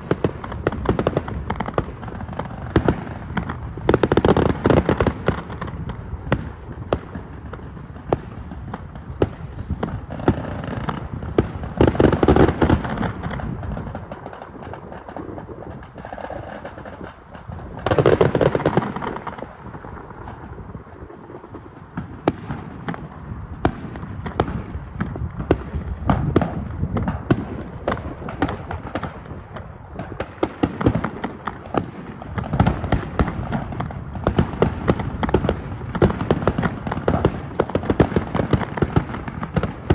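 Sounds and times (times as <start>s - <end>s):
fireworks booms: 0.0s - 39.9s
fireworks cracks and bangs: 0.0s - 39.9s.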